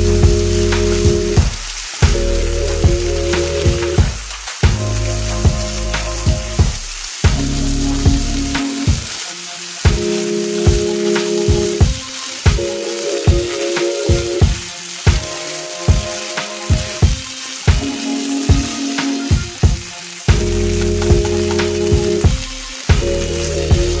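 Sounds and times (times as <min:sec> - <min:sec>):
background music with steady beat: 0:00.0 - 0:24.0
corn kernels sizzling in pan: 0:00.0 - 0:24.0.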